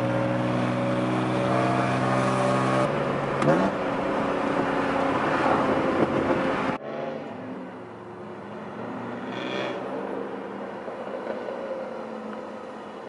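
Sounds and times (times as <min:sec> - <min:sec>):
car engine and loud exhaust: 0:00.0 - 0:13.0.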